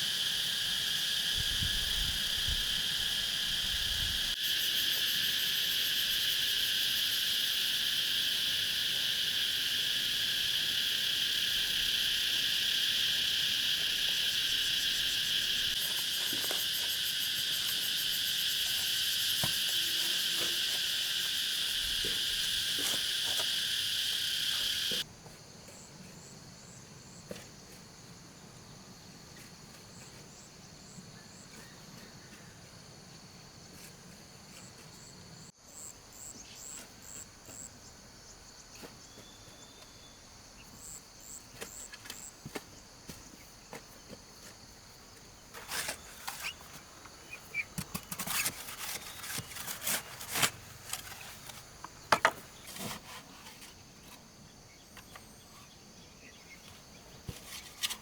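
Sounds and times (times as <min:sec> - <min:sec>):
insect chirps: 0:00.0 - 0:25.1, 0:28.0 - 0:58.0
insect chorus: 0:00.0 - 0:58.0.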